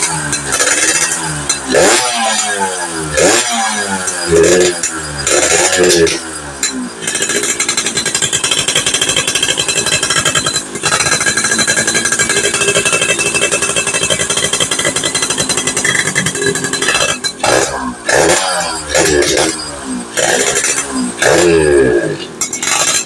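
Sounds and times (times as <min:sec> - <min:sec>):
moped engine running rough: 0:00.0 - 0:23.0.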